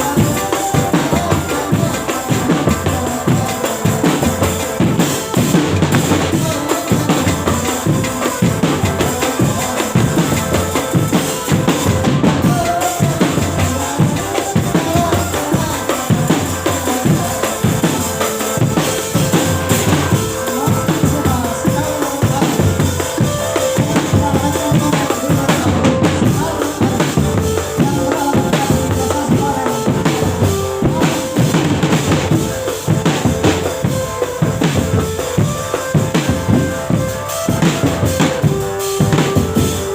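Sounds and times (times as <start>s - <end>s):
loud drum-led music: 0.0s - 39.9s.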